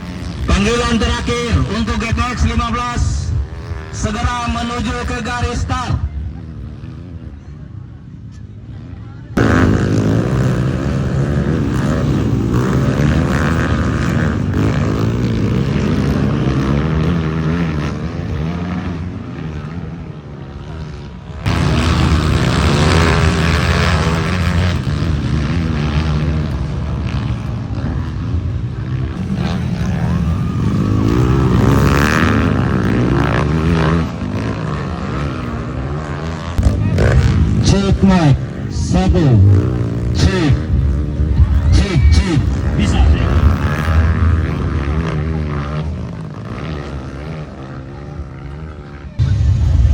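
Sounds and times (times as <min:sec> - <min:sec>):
racing motorcycle engines revving: 0:00.0 - 0:49.9.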